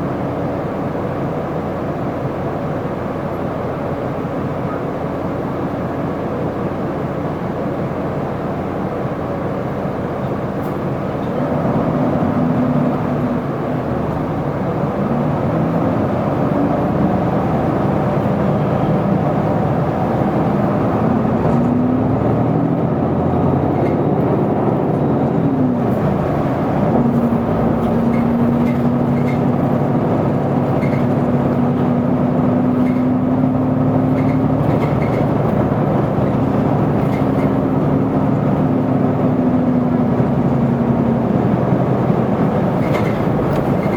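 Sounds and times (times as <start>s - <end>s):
bus diesel engine from inside: 0.0s - 43.9s.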